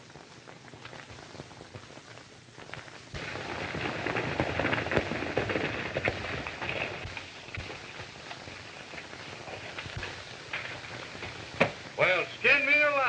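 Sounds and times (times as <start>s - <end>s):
galloping horse hoofbeats: 0.0s - 12.1s
film soundtrack crackle: 0.0s - 13.0s.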